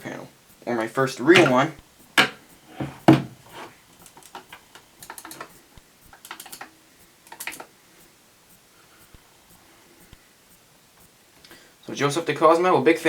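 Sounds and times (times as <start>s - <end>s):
light sharp clicks and taps: 0.0s - 11.7s.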